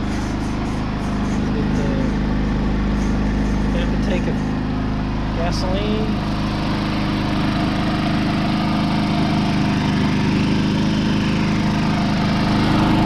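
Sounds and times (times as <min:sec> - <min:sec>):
generator engine idling: 0:00.0 - 0:13.0.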